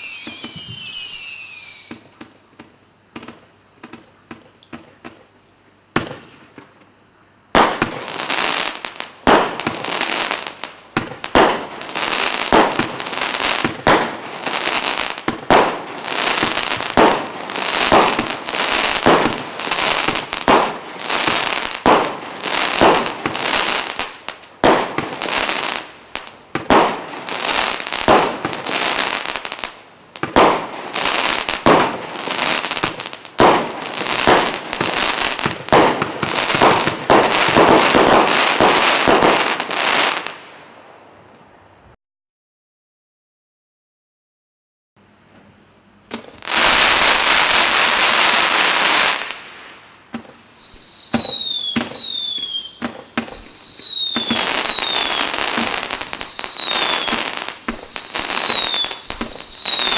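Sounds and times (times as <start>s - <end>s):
firework crackling: 0.0s - 4.1s, 7.5s - 40.7s, 46.1s - 59.9s
firework bangs: 0.0s - 5.2s, 5.9s - 40.6s, 46.1s - 59.9s.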